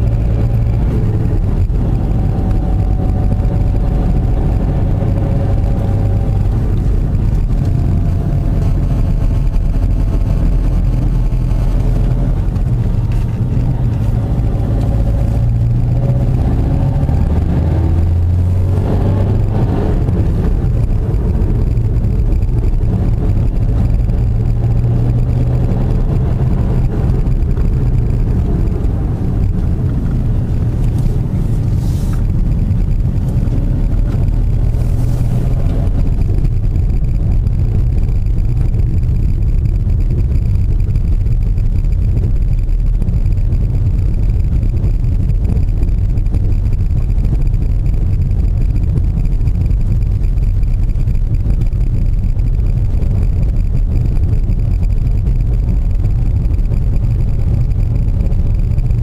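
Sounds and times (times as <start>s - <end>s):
car engine running: 0.0s - 59.0s
road and tyre rumble: 0.0s - 59.0s.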